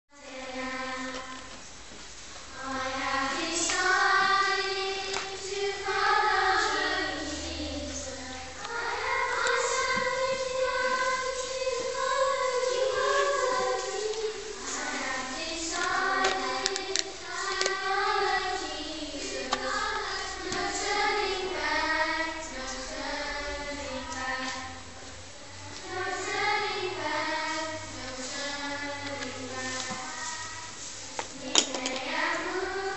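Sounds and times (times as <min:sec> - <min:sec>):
choir of high voices singing: 0:00.1 - 0:01.6, 0:02.5 - 0:25.0, 0:25.6 - 0:32.9.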